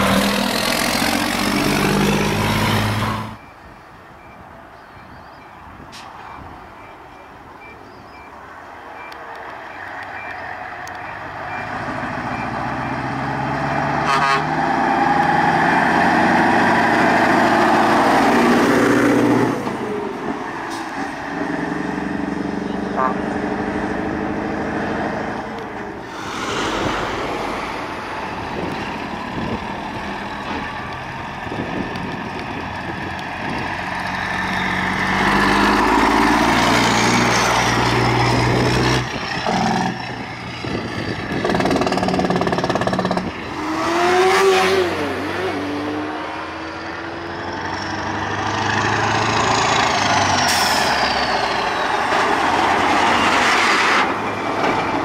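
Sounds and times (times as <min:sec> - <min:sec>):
truck diesel engines passing: 0:00.0 - 0:55.0.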